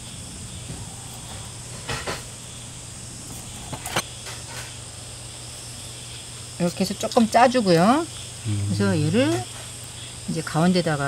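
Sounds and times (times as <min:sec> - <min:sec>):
insects: 0:00.0 - 0:11.0.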